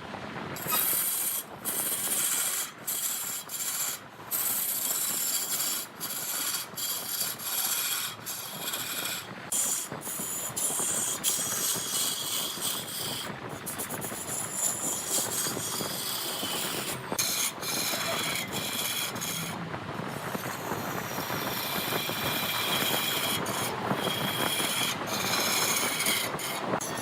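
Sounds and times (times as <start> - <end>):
high squeal: 0.6 - 27.0
lathe tool rasping wood: 0.6 - 27.0.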